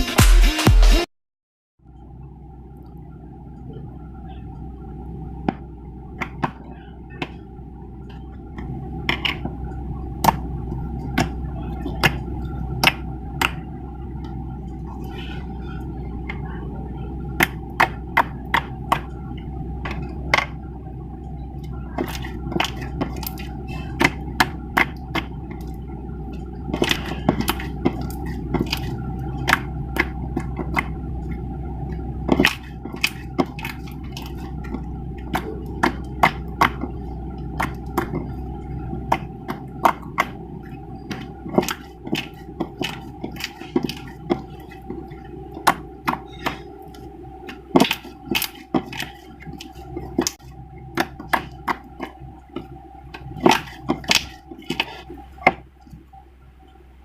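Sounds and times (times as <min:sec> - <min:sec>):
steady low hum: 0:01.8 - 0:57.0.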